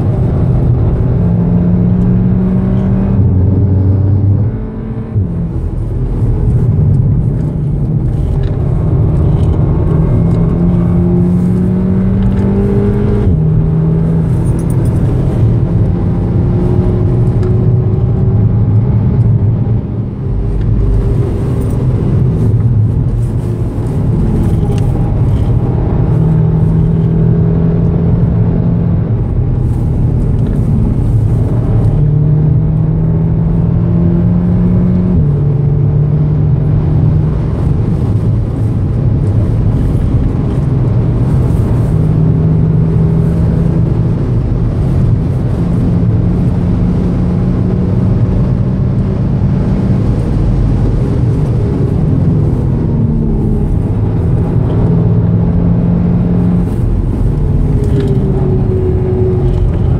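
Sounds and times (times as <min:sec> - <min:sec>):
car engine accelerating hard: 0:00.0 - 0:59.9
road and tyre roar: 0:00.0 - 0:59.9.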